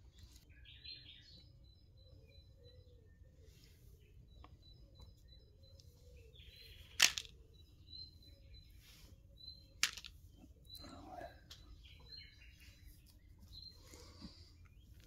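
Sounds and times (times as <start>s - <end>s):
faint outdoor background noise: 0.0s - 15.0s
small birds chirping: 0.0s - 15.0s.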